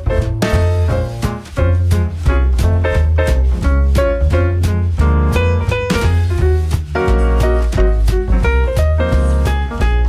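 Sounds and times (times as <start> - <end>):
upbeat jazzy music: 0.0 - 10.0.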